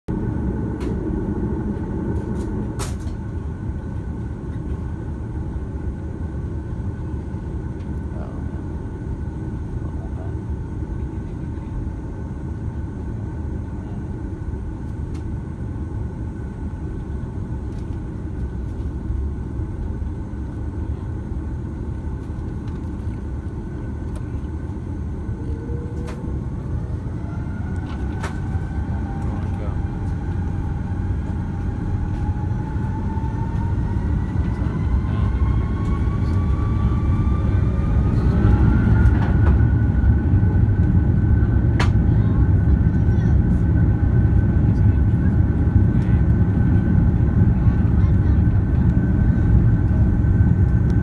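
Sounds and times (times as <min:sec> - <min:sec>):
jet engine whine: 0:00.1 - 0:51.0
low engine rumble: 0:00.1 - 0:51.0.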